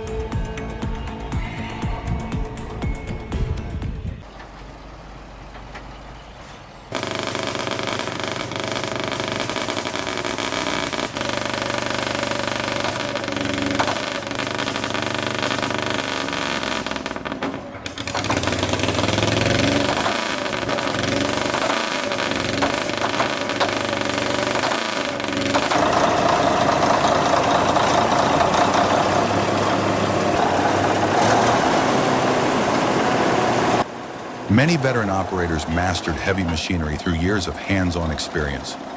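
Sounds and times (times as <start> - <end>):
bulldozer diesel engine: 0.0 - 7.0, 11.6 - 38.9.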